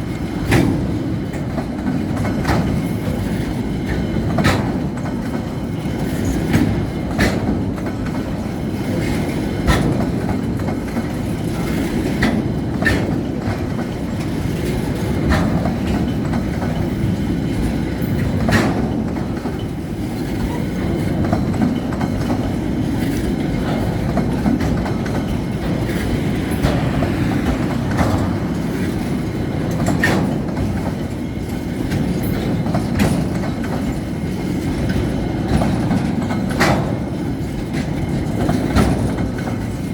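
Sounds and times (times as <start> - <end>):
freight train rumbling on rails: 0.0 - 39.9
wheels and couplings knocking: 0.0 - 39.9.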